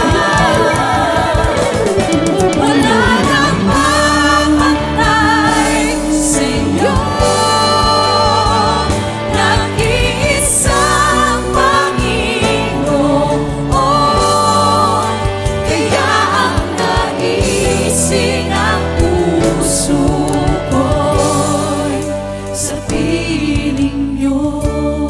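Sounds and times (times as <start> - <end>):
group singing gospel song: 0.0 - 25.0
instrumental backing: 0.0 - 25.0.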